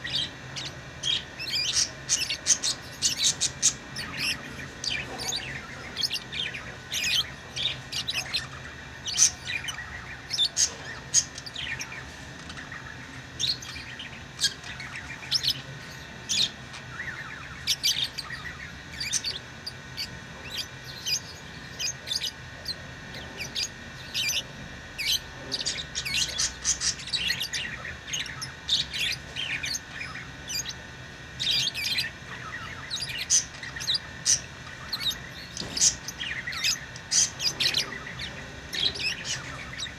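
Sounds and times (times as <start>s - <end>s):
bird squawk: 0.0s - 39.9s
lovebirds chirping: 0.0s - 39.9s.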